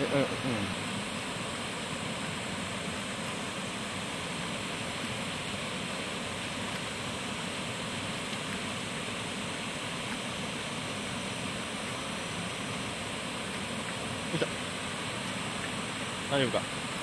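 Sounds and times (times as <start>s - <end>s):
waterfall pouring over rocks: 0.0s - 17.0s.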